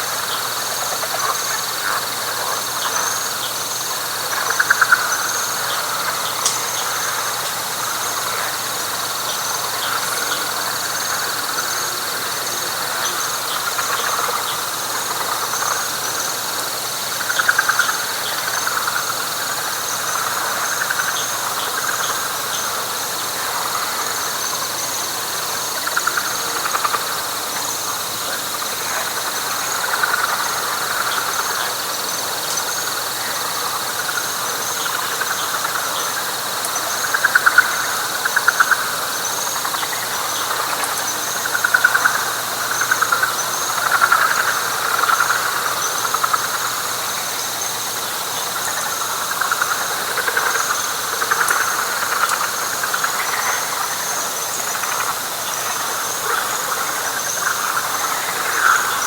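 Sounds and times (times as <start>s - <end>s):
frogs rattling calls: 0.0s - 59.0s.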